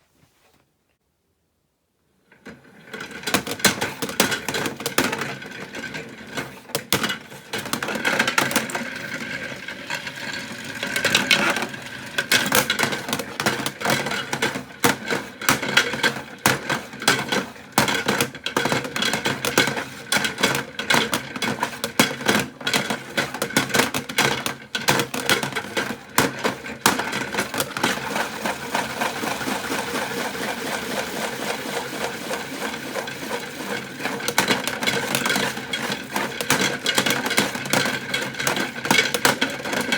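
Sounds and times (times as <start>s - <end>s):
toys clattering in a drum: 2.9s - 39.9s.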